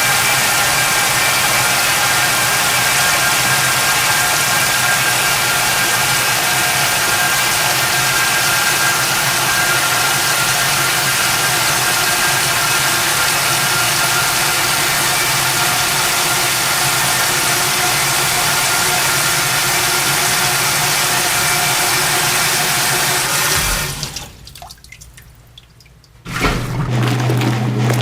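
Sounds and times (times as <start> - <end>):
washing machine running: 0.0 - 28.0.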